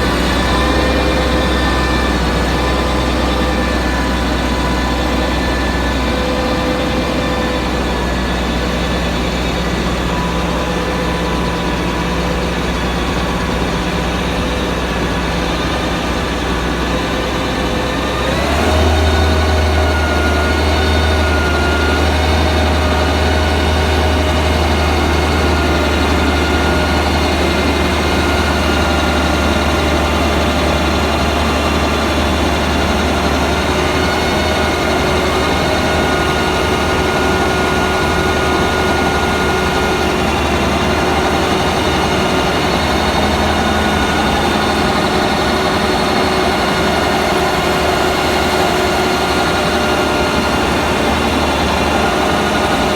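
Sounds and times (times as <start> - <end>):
heavy machine humming and whining: 0.0 - 52.9.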